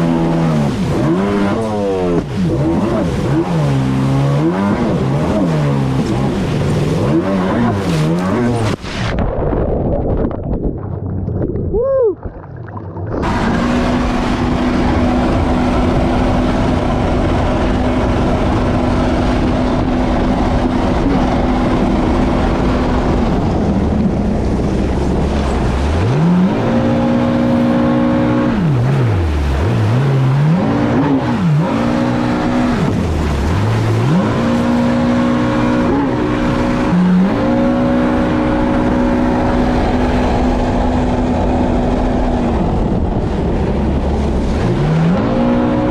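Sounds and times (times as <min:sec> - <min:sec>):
jet ski engine revving: 0:00.0 - 0:09.0, 0:13.1 - 0:45.9
dense rushing noise: 0:06.0 - 0:45.9.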